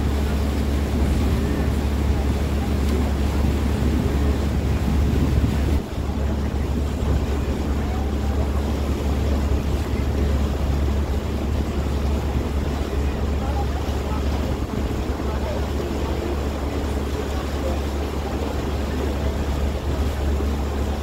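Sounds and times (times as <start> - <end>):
boat motor rumbling: 0.0 - 21.0
wind buffeting microphone: 0.0 - 21.0.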